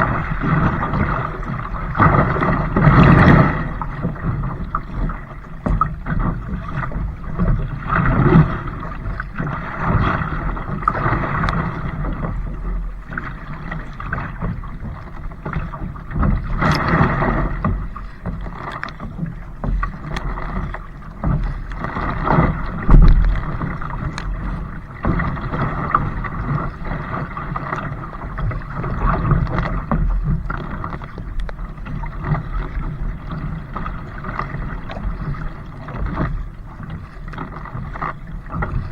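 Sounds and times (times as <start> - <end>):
water splashing from paddling: 0.0 - 38.9.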